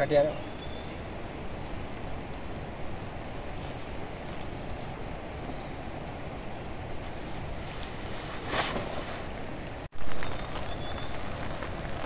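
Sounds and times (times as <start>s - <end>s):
insects calling: 0.0s - 9.9s
steady rushing background noise: 0.0s - 12.0s.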